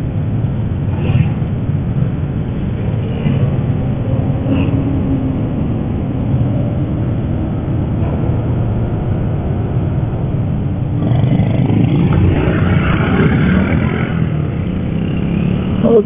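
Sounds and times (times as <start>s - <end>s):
motorcycle engine: 0.0s - 16.0s
rushing wind hiss: 0.0s - 16.0s.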